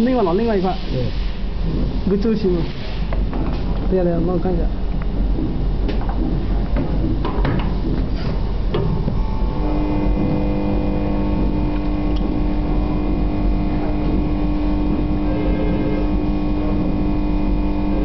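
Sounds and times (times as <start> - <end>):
soldering machine electrical hum: 0.0 - 18.0
low rumble: 1.2 - 18.0.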